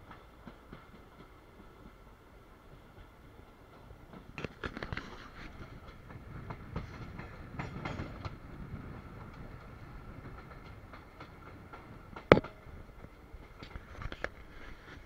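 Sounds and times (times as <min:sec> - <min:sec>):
train coach rumbling: 0:00.0 - 0:15.0
wheels clicking on rails: 0:00.0 - 0:15.0.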